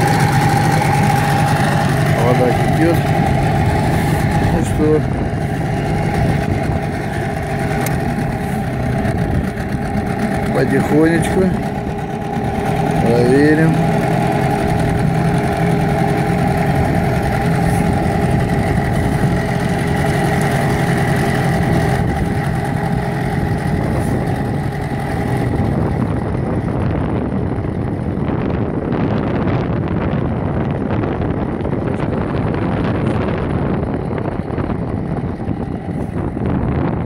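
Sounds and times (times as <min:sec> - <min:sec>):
outboard motor running: 0:00.0 - 0:37.0
wind and water rushing: 0:00.0 - 0:37.0.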